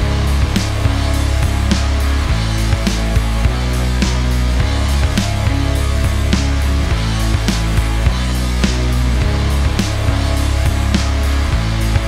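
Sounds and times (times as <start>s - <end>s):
bass guitar: 0.0s - 12.0s
drum kit steady beat: 0.0s - 12.0s
electric guitar: 0.0s - 12.0s.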